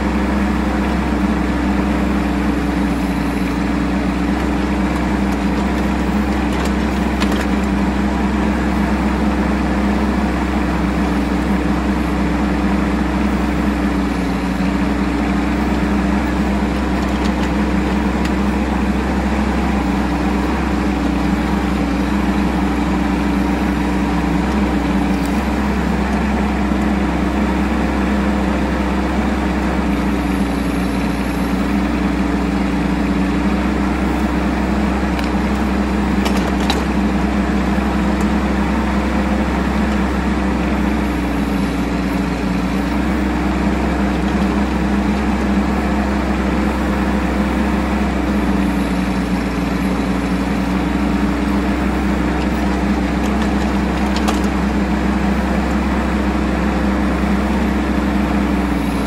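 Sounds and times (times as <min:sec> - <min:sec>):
mini excavator diesel engine running: 0:00.0 - 0:59.0.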